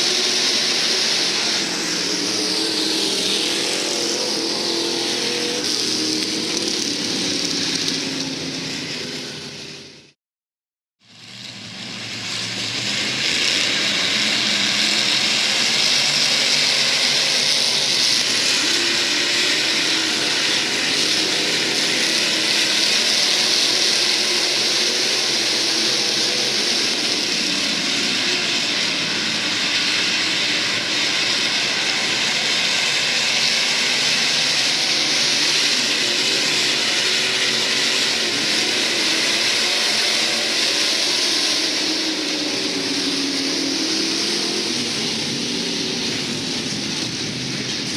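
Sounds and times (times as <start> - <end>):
race car engines racing: 0.0 - 10.2, 11.1 - 47.9.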